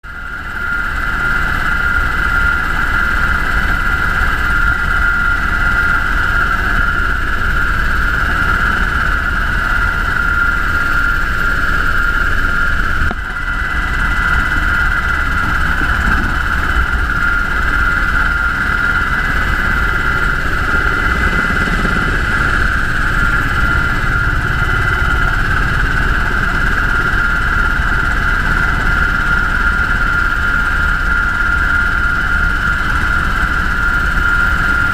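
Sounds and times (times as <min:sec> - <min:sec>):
helicopter rotor and turbine drone: 0:00.0 - 0:34.9
high turbine whine: 0:00.0 - 0:34.9.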